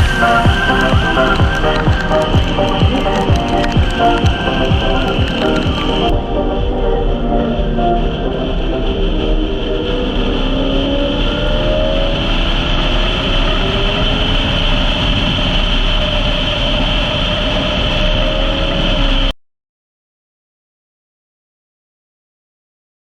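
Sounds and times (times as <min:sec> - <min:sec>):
road noise: 0:00.0 - 0:19.3.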